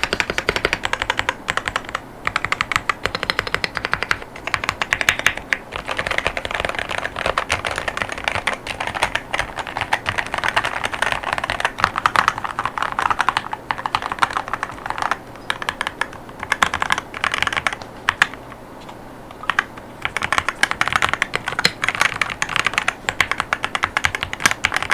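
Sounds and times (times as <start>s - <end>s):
fast mechanical keyboard typing: 0.0s - 18.4s, 19.4s - 24.9s.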